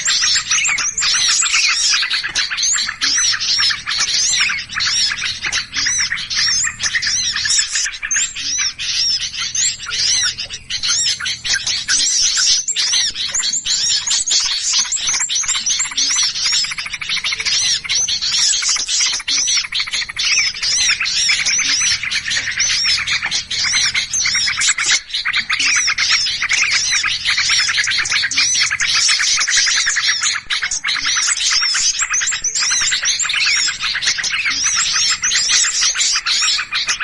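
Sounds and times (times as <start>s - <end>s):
flock of small birds chirping: 0.0s - 37.0s.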